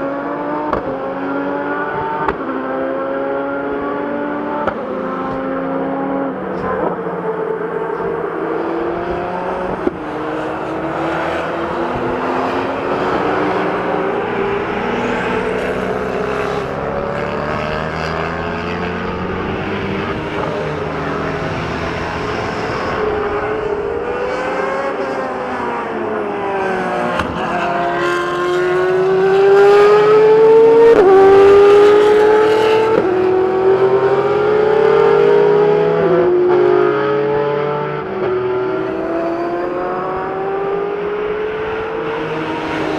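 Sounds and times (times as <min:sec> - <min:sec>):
sports car engine accelerating: 0:00.0 - 0:42.9.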